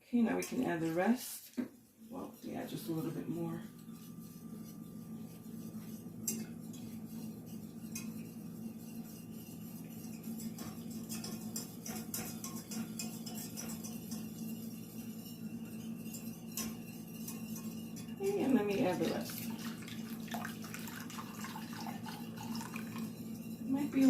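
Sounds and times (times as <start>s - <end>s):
steady low hum: 0.1s - 24.0s
whisk scraping a saucepan: 1.8s - 24.0s.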